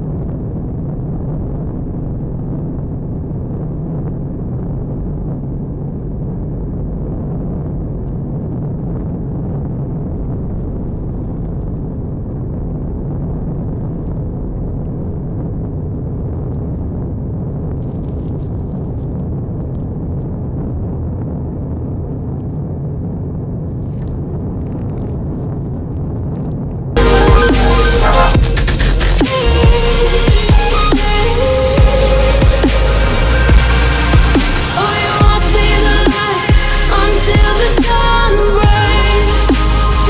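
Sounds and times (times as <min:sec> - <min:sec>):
deep rumble with faint crackles: 0:00.0 - 0:40.0.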